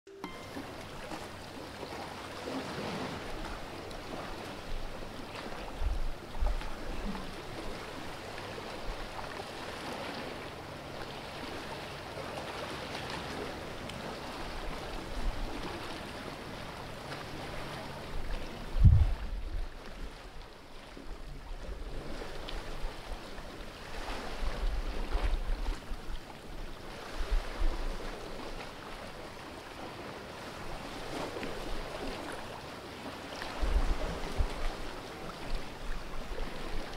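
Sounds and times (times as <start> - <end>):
sea water lapping against rocks: 0.8 - 36.9.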